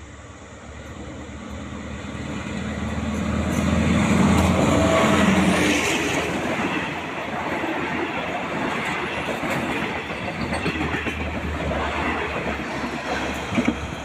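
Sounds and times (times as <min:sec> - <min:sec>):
train coaches rolling by: 0:00.0 - 0:14.0.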